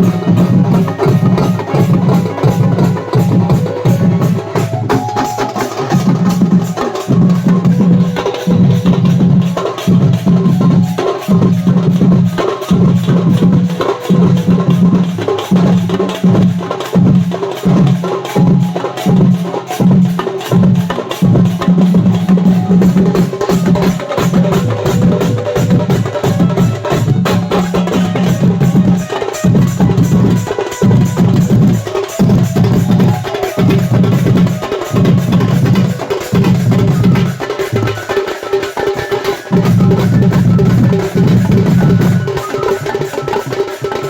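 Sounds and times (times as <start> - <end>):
band party music: 0.0 - 44.0
drum and percussion beat: 0.0 - 44.0.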